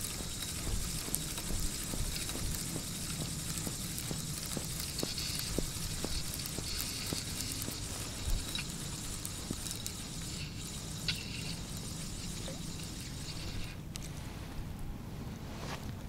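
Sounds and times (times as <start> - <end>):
fishing reel clicking: 0.0 - 13.8
low rumble and hiss: 0.0 - 16.0.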